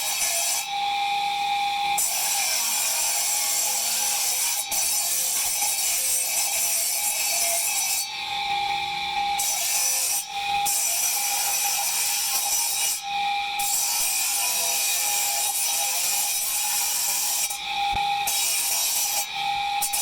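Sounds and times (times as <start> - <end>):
power tool grinding stone: 0.0 - 1.1, 1.7 - 20.0.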